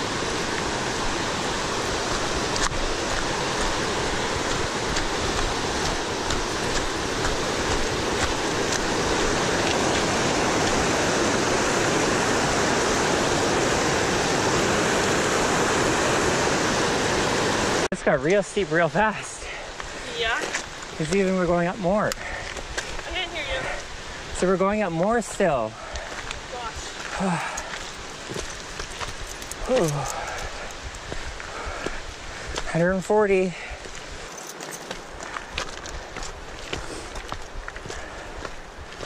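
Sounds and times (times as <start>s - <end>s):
water rushing over rocks: 0.0s - 39.0s.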